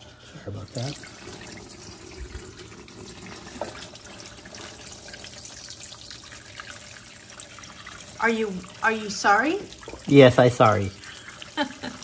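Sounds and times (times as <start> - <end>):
liquid pouring and splashing: 0.0 - 12.0.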